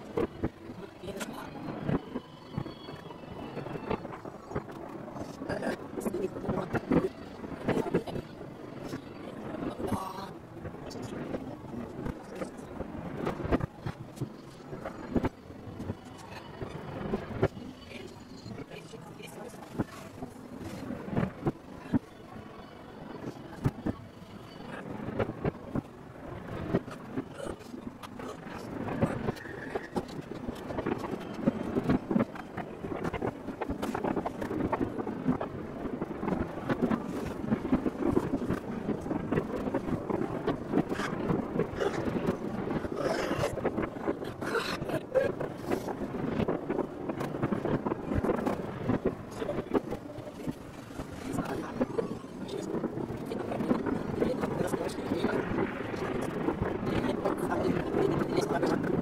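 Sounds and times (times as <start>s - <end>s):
distant fireworks rumbling and crackling: 0.0s - 59.0s.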